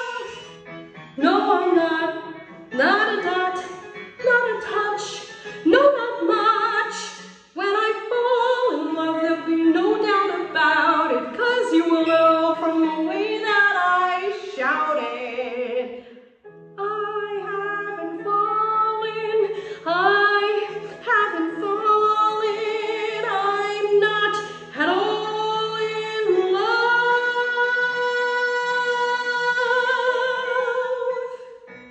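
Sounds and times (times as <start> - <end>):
woman singing with vibrato: 0.0 - 0.6, 1.2 - 16.0, 16.8 - 31.4.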